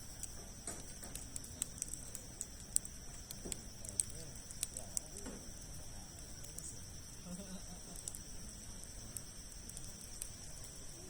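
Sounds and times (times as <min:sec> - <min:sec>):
campfire crackling: 0:00.0 - 0:11.0
insects droning: 0:00.0 - 0:11.0.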